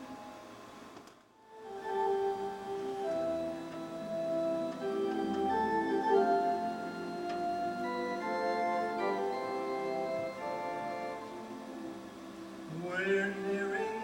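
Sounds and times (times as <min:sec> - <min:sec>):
organ playing a hymn tune: 0:00.0 - 0:00.8, 0:01.4 - 0:14.0.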